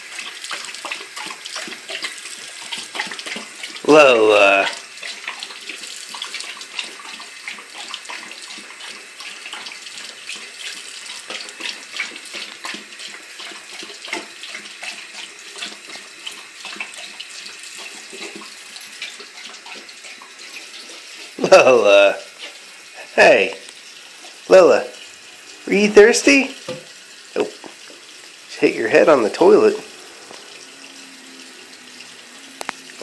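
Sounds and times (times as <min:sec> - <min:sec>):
faucet water splashing into sink: 0:00.0 - 0:33.0.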